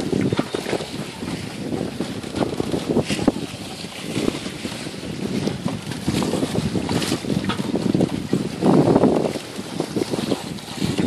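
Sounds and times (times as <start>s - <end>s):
water splashing along hull: 0.0s - 11.0s
wind buffeting microphone: 0.0s - 11.0s.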